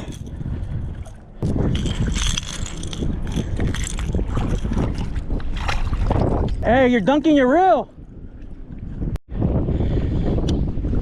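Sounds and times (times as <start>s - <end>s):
water splashing: 0.0s - 9.0s
wind buffeting microphone: 0.0s - 11.0s.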